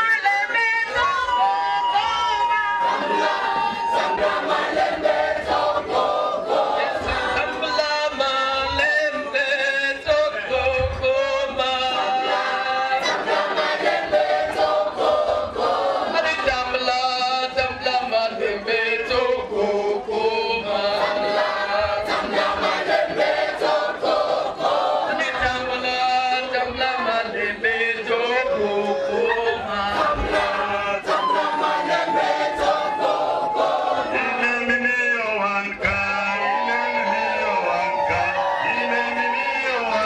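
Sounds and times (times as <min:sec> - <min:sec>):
choir singing: 0:02.7 - 0:08.9, 0:10.8 - 0:16.5, 0:18.1 - 0:34.8, 0:35.4 - 0:40.0.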